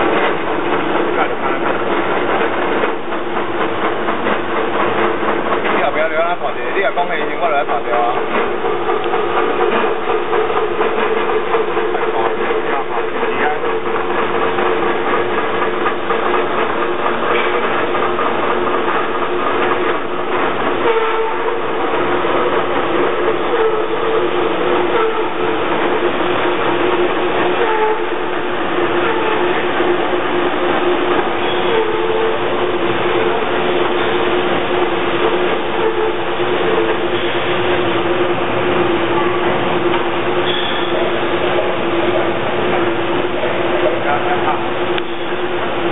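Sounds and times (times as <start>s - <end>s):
machine humming and rumbling: 0.0s - 45.9s.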